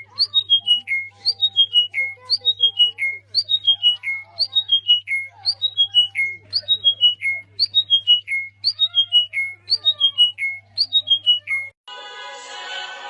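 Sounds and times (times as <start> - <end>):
songbird singing: 0.0 - 11.8.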